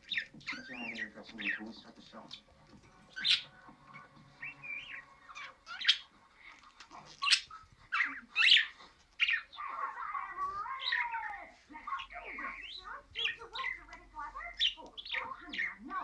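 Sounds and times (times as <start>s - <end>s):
budgerigar chirping and warbling: 0.0s - 16.0s.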